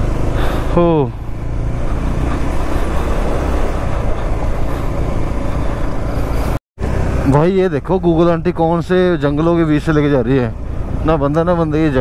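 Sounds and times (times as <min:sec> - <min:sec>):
motorcycle engine and wind rush: 0:00.0 - 0:12.0.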